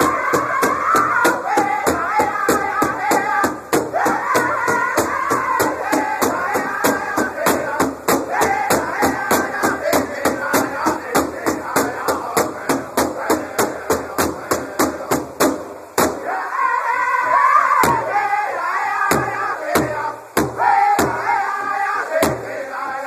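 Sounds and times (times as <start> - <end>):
large drum beating: 0.0 - 16.3, 17.8 - 18.2, 19.1 - 22.5
men singing together: 0.0 - 23.0.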